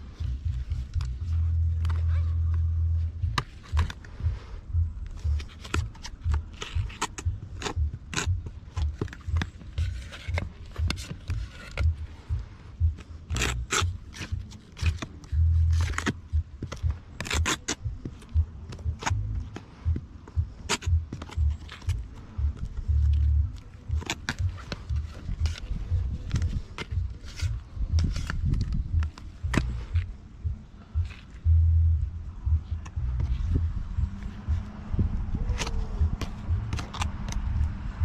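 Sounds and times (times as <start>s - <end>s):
low rumble: 0.0s - 38.0s.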